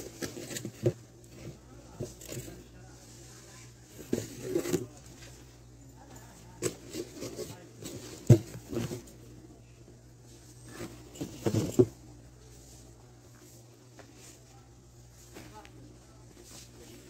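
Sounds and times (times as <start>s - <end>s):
knocks and rustles of objects: 0.0s - 9.4s, 10.2s - 17.0s.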